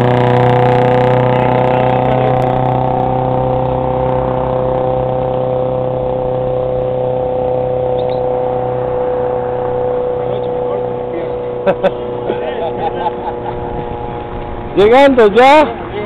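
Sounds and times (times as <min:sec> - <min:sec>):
steady loud drone: 0:00.0 - 0:16.0.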